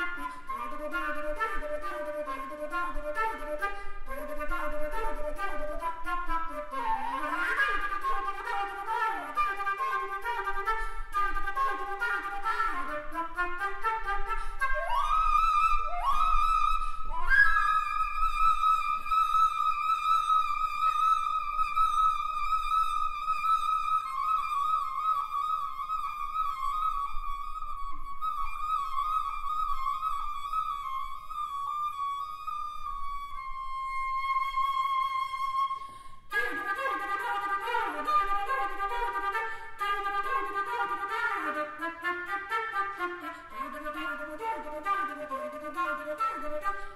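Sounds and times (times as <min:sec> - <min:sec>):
flute with sliding pitches: 0:00.0 - 0:46.9.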